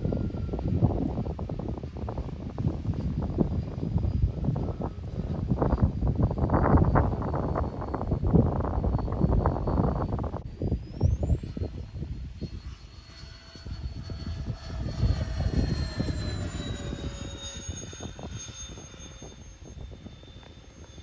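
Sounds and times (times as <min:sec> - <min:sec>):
electric ducted fans whining: 0:00.0 - 0:21.0
wind buffeting microphone: 0:00.0 - 0:21.0.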